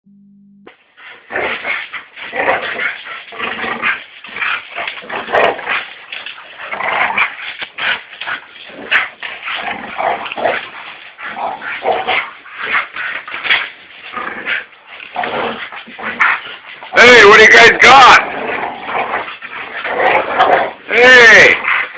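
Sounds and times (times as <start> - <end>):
dogs vocalising while playing: 0.8 - 17.0, 18.2 - 20.9, 21.6 - 21.9.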